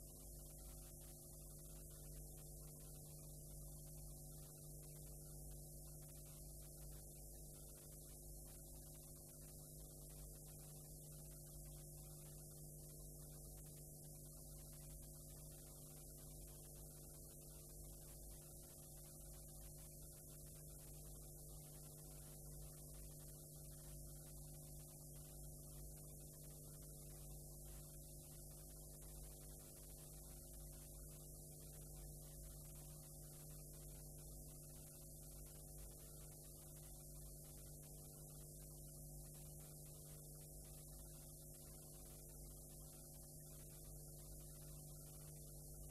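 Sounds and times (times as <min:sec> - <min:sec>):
faint electrical hum: 0:00.0 - 0:45.9
soft tape hiss: 0:00.0 - 0:45.9.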